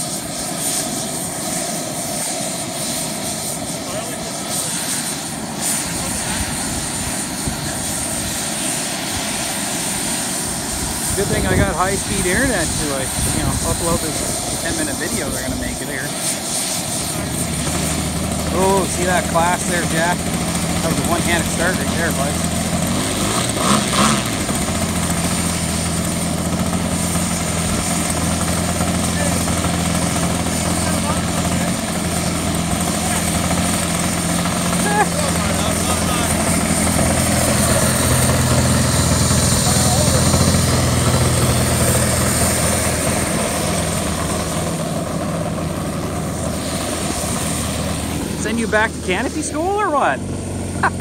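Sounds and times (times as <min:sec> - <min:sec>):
model plane engine idling: 0:00.0 - 0:51.0
high whine: 0:10.0 - 0:51.0.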